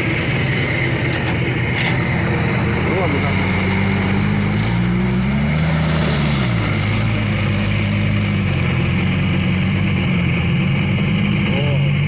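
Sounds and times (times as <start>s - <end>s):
diesel engine running and revving: 0.0s - 12.0s.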